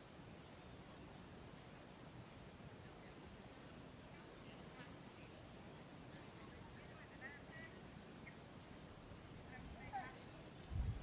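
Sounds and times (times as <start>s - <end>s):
insects chirping: 0.0s - 11.0s
low outdoor hiss: 0.0s - 11.0s.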